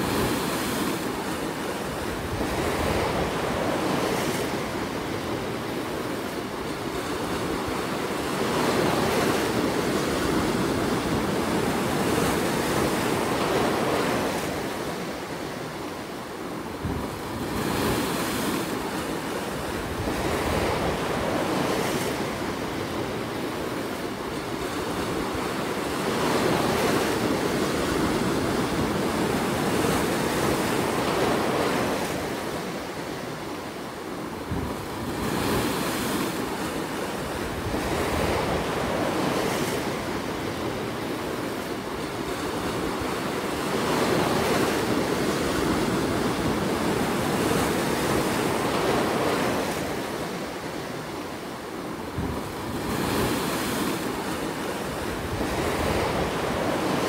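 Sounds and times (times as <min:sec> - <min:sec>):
surf washing over rocks: 0:00.0 - 0:57.0.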